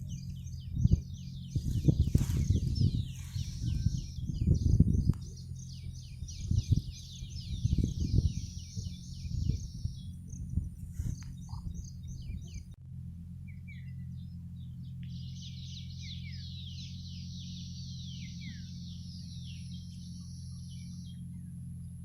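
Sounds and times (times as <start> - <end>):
songbird twittering: 0.0 - 12.8, 13.4 - 22.0
low rumbling noise: 0.0 - 22.0.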